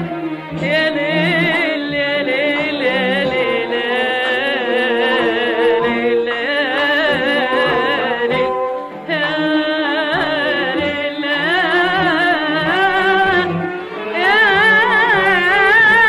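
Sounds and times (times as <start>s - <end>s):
old recording of arabic music: 0.0s - 16.0s.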